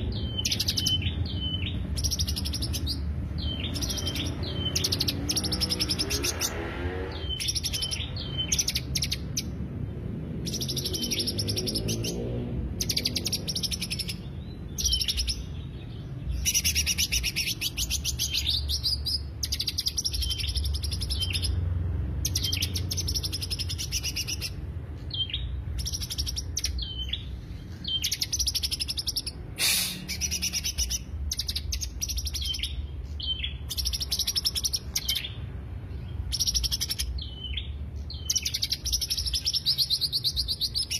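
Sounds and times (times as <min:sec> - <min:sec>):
bird singing rapid trills: 0:00.0 - 0:40.9.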